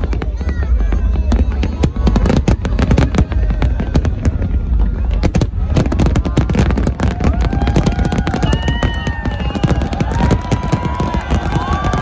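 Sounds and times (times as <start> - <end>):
fireworks bangs and crackling: 0.0 - 12.0
low rumble: 0.0 - 12.0.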